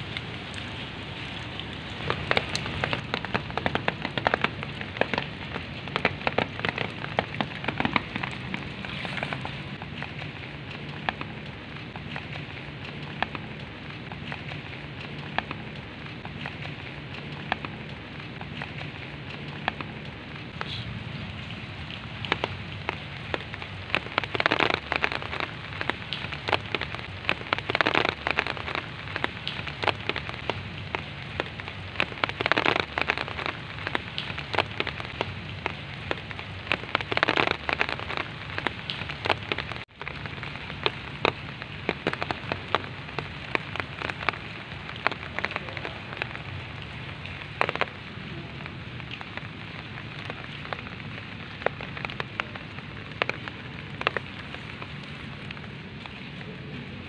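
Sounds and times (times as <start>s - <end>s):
rain falling on leaves and grass: 0.0s - 57.0s.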